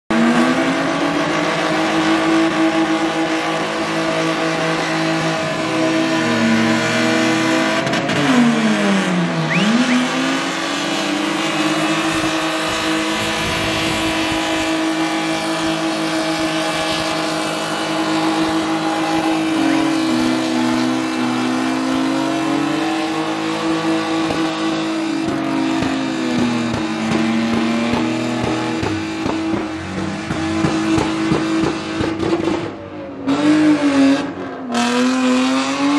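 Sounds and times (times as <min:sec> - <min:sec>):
car engine at high revs: 0:00.1 - 0:35.9.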